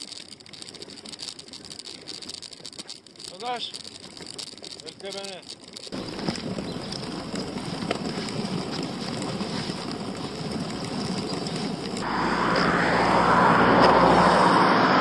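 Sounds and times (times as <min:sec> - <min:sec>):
footsteps on asphalt: 0:00.0 - 0:14.6.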